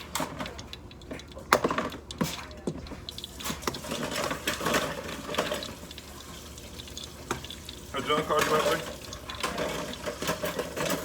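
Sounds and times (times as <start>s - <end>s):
utensils and dishes clinking: 0.0s - 11.0s.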